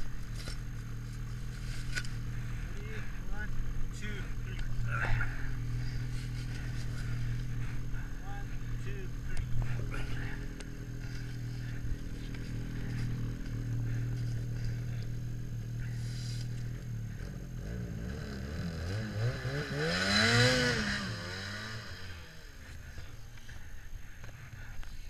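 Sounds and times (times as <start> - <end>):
snowmobile engine idling and revving: 0.0 - 25.0.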